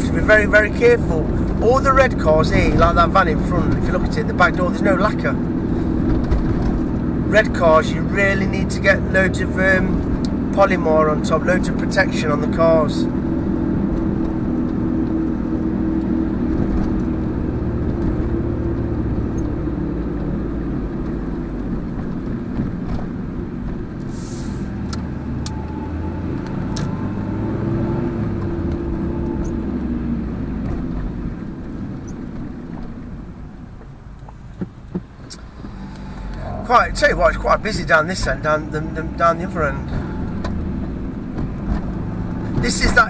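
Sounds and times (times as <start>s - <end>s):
car engine from inside cabin: 0.0s - 43.0s
road noise: 0.0s - 43.0s.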